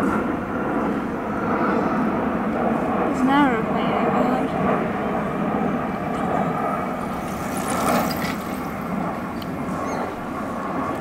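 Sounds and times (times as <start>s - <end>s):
aeroplane engines droning overhead: 0.0s - 11.0s.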